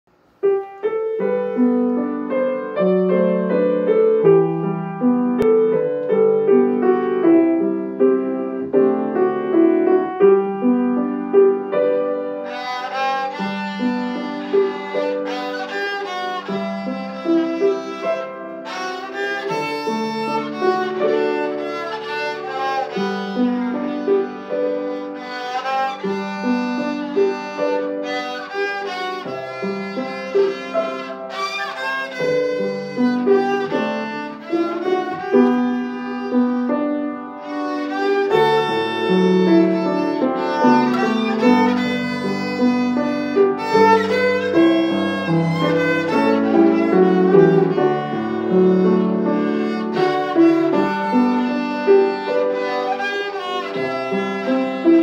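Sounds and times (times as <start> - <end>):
piano accompaniment: 0.0 - 55.0
violin melody: 0.4 - 55.0.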